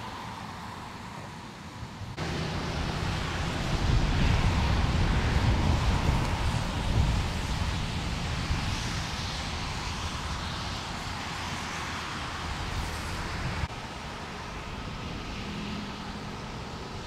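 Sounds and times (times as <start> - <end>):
rushing outdoor noise with low rumble: 0.0 - 17.0.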